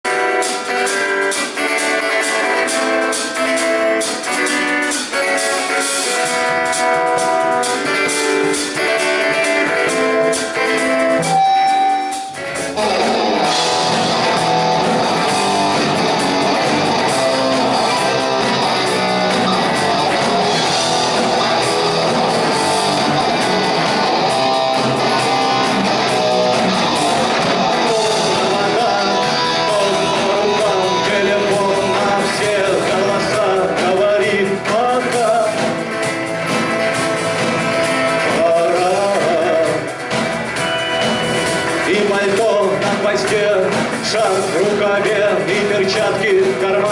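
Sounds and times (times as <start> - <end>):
rock band playing: 0.0 - 46.9
guitar picking a melody: 0.1 - 46.9.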